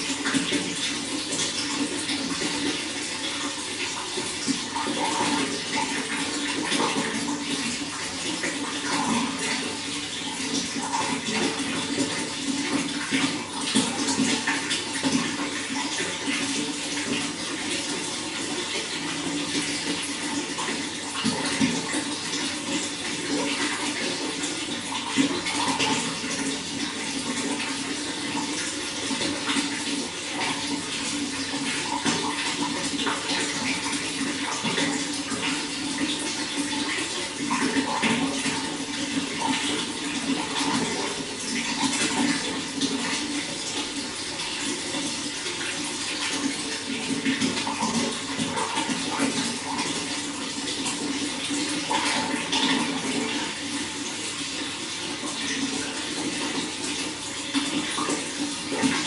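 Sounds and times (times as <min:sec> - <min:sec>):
water gurgling: 0:00.0 - 0:59.0
water running and splashing: 0:00.0 - 0:59.0.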